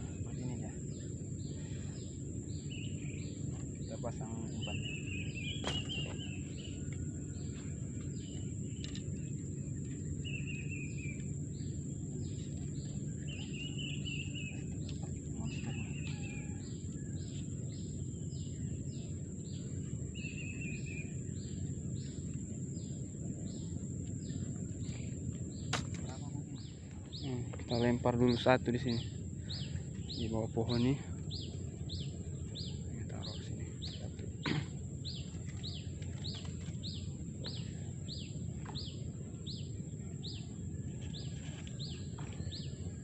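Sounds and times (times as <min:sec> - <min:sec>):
high insect whine: 0:00.0 - 0:43.0.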